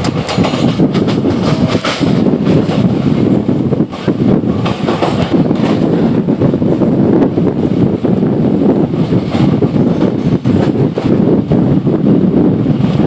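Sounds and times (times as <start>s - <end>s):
track clatter: 0.0s - 13.0s
train wheels rumbling on rails: 0.0s - 13.0s.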